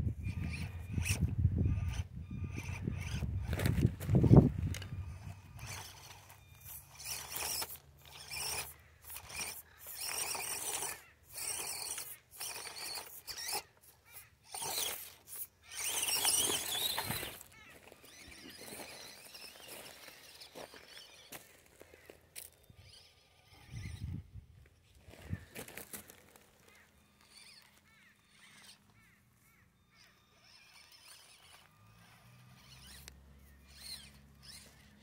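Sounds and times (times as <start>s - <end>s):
small electric motor whining: 0.0s - 35.0s.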